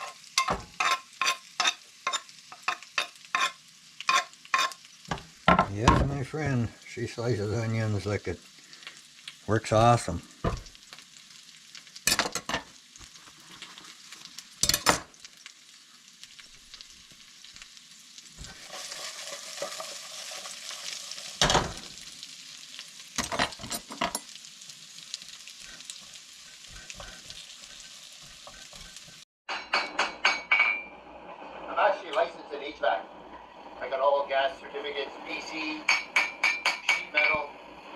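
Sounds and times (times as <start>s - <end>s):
food sizzling in a pan: 0.0s - 37.9s.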